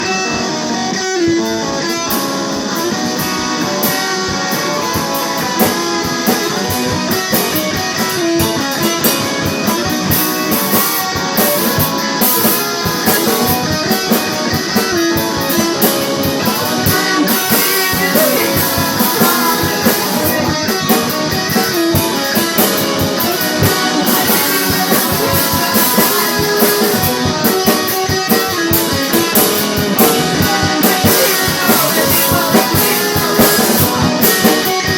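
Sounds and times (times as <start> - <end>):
drum kit steady beat: 0.0 - 34.9
guitar: 0.0 - 34.9.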